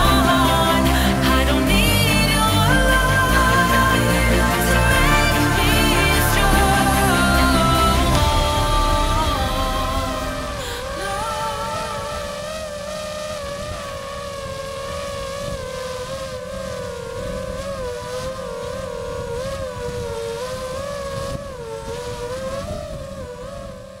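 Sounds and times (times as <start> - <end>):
drone propellers whining: 0.0 - 24.0
low rumbling noise: 0.0 - 24.0.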